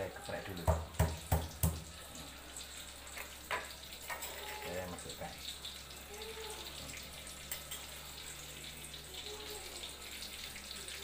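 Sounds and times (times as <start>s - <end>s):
aromatics sizzling in hot oil: 0.0s - 11.0s.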